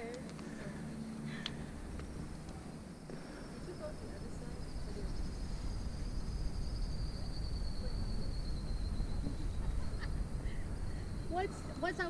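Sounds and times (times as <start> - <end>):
faint high whine: 0.5 - 12.0.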